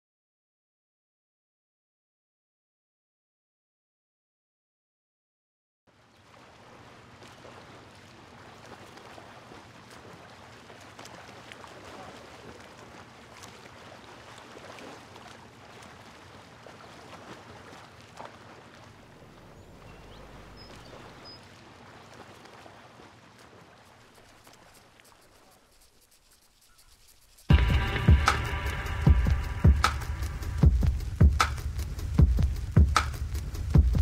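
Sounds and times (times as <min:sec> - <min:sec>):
creek water running: 0:05.9 - 0:34.0.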